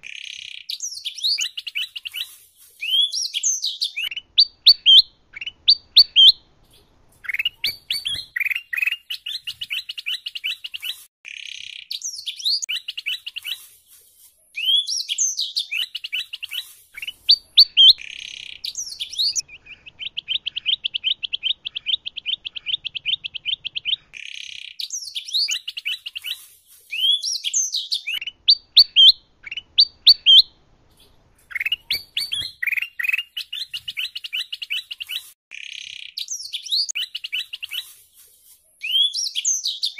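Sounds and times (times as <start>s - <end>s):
caged songbirds singing: 0.0s - 39.9s.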